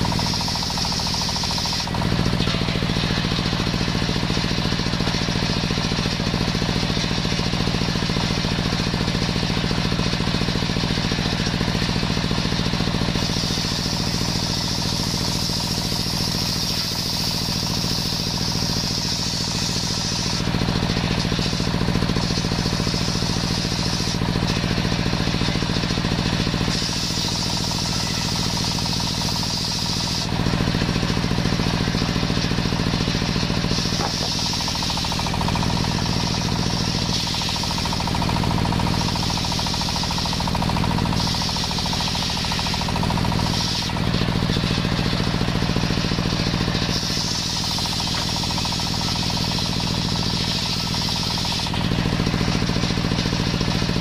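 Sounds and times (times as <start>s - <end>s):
circular saw cutting wood: 0.0s - 54.0s
engine low hum: 0.0s - 54.0s.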